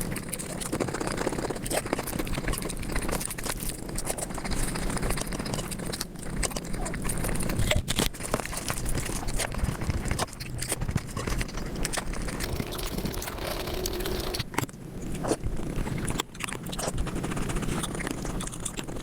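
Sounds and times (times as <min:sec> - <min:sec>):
sped-up chewing clicks: 0:00.0 - 0:19.0.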